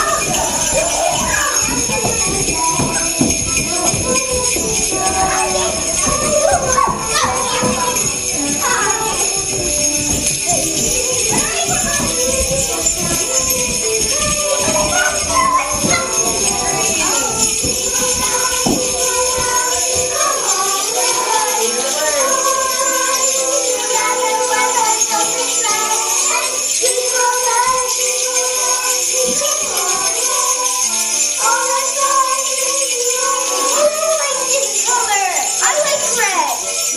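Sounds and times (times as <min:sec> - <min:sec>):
recorded song: 0:00.0 - 0:36.9
sleigh bells jingling: 0:00.0 - 0:36.9.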